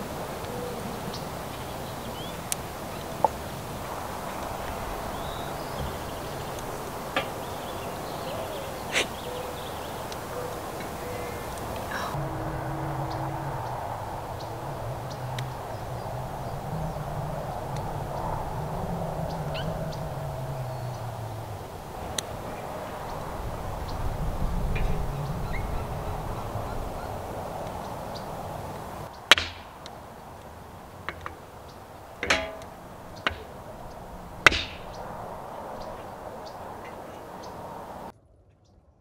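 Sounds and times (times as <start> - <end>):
campfire burning: 0.0 - 38.1.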